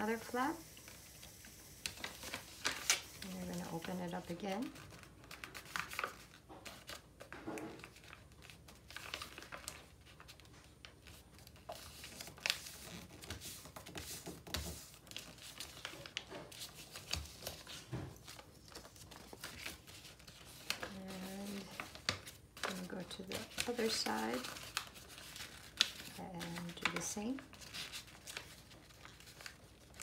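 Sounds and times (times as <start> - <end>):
paper rustling and crinkling: 0.1 - 30.0.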